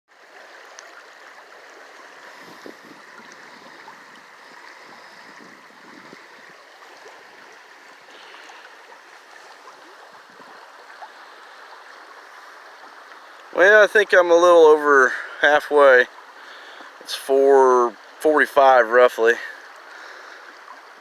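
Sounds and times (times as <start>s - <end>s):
river water rushing: 0.1s - 21.0s
small water splashes: 0.1s - 21.0s.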